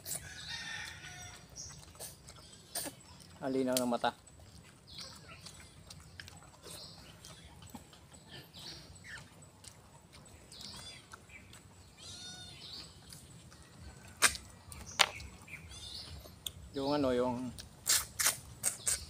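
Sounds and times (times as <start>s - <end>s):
slurping and mouth noises: 0.0s - 16.6s, 17.4s - 19.0s.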